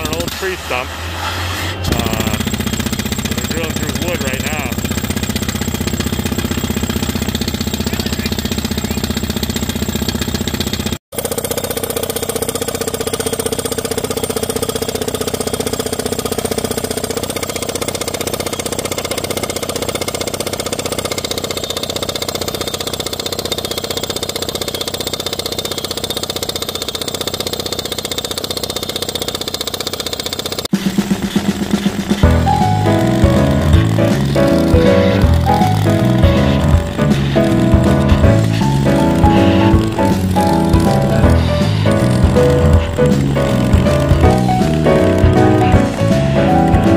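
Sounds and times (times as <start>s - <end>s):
drill rapid hammering: 0.0s - 46.9s
loader engine running: 0.0s - 46.9s.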